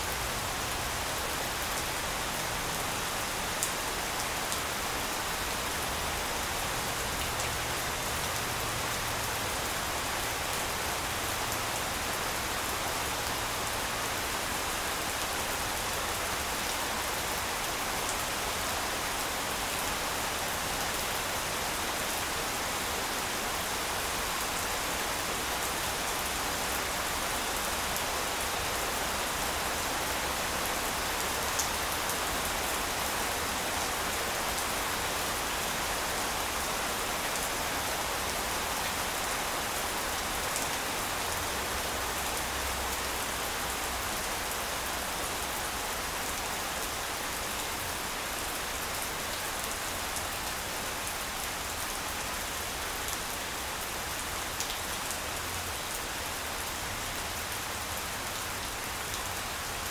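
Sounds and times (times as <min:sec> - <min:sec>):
rain falling on grass: 0:00.0 - 0:59.9.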